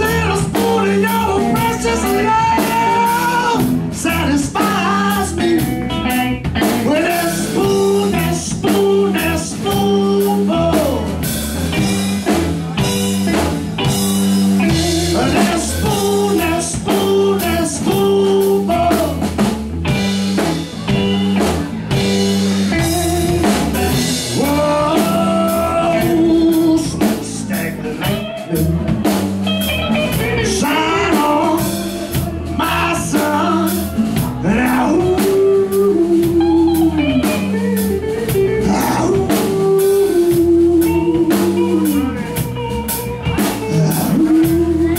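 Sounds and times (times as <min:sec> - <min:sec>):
man singing: 0:00.0 - 0:13.0, 0:14.6 - 0:19.5, 0:21.8 - 0:44.9
drum kit: 0:00.0 - 0:44.9
electric guitar riff: 0:00.0 - 0:44.9.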